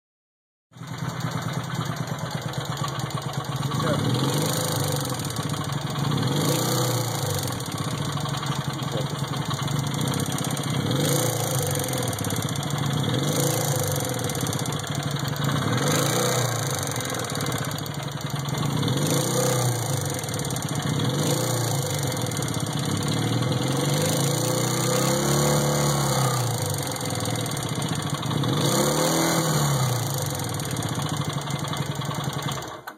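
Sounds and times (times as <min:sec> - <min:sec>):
engine knocking: 0:00.8 - 0:32.9
motorcycle engine revving: 0:00.8 - 0:32.9.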